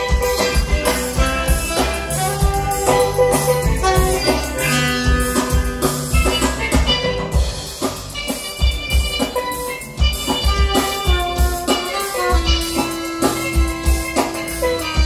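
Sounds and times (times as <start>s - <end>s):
drum kit beat: 0.0s - 15.0s
steelpan music: 0.0s - 15.0s.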